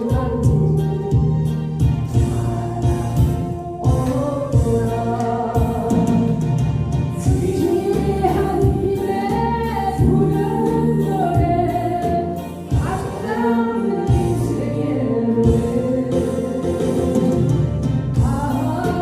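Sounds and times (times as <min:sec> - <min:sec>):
backing track with steady beat: 0:00.0 - 0:19.0.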